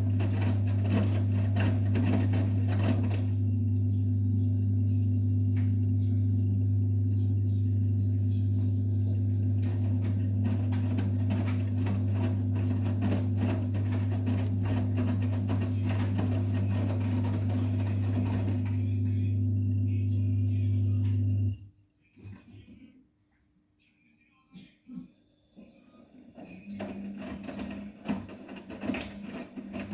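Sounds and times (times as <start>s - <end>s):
washing machine clattering: 0.0s - 21.5s, 26.4s - 29.9s
washing machine humming: 0.0s - 21.7s, 25.8s - 29.9s.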